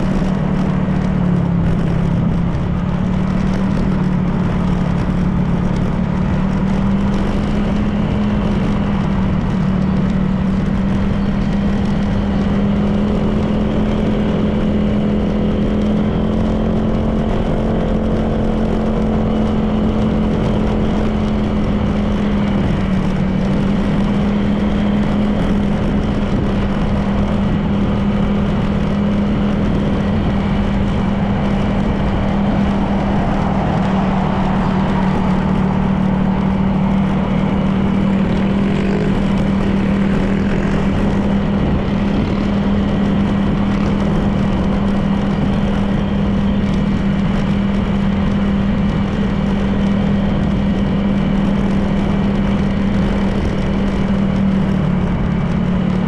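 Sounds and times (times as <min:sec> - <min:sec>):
road and wind noise: 0:00.0 - 0:56.0
scooter engine cruising: 0:00.0 - 0:56.0.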